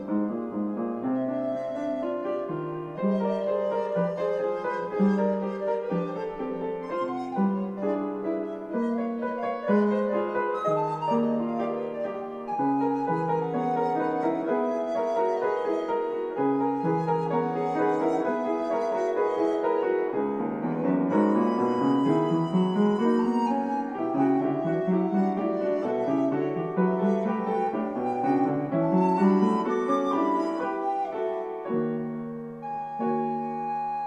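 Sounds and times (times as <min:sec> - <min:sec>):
piano arpeggios: 0:00.0 - 0:34.0.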